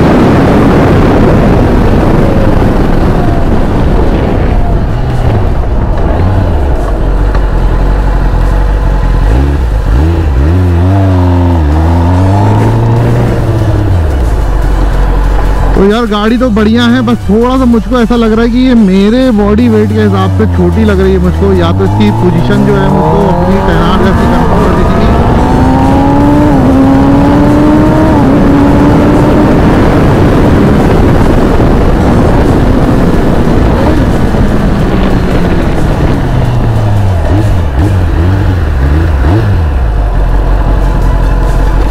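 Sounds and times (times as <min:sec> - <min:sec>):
motorcycle engine revving: 0:00.0 - 0:41.9
road and wind rush: 0:00.0 - 0:41.9.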